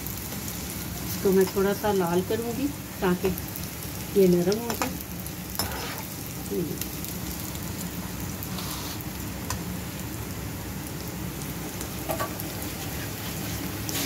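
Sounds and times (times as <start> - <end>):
carrot strips sizzling in oil: 0.0 - 14.0.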